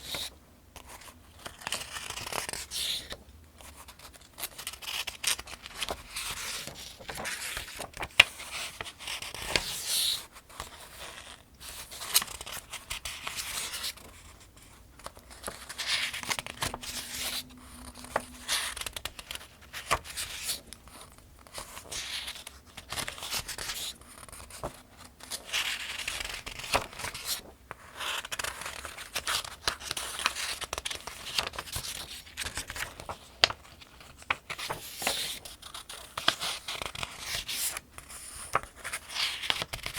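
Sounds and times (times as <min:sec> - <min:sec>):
pages being turned: 0:00.0 - 0:03.1, 0:03.8 - 0:39.9.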